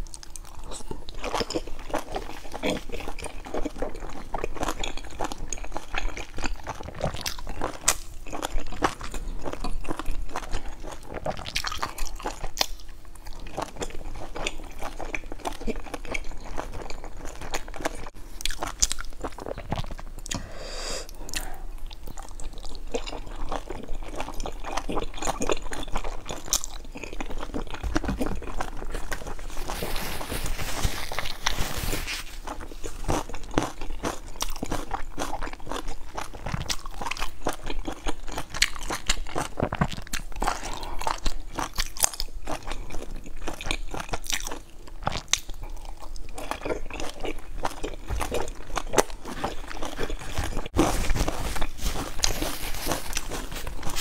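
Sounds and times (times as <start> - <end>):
chewing and biting dumplings: 0.0 - 20.4, 21.2 - 54.0.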